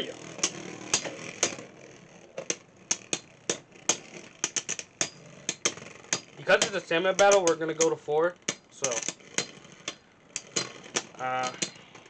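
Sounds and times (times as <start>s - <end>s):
plastic toy clicks and clacks: 2.3s - 12.0s.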